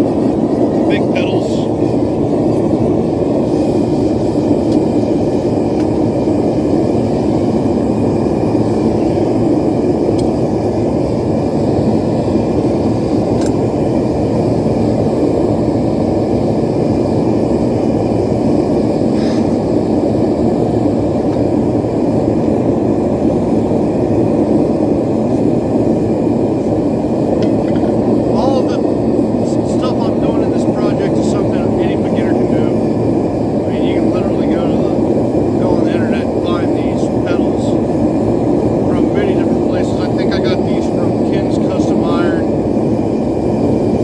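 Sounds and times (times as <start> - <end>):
forge burner rushing: 0.0 - 44.0.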